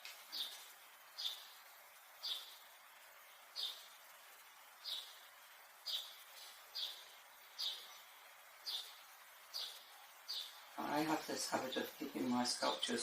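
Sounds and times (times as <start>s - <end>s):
faint room hiss: 0.0s - 13.0s
bird chirping: 0.2s - 13.0s.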